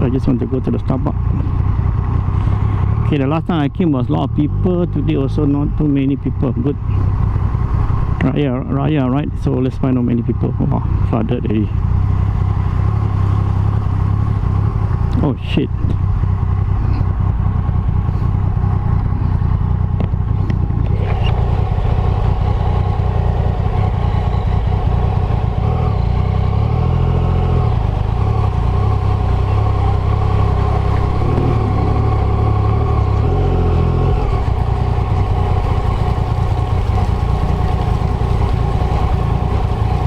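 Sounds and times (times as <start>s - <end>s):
motorcycle engine at low speed: 0.0s - 40.0s.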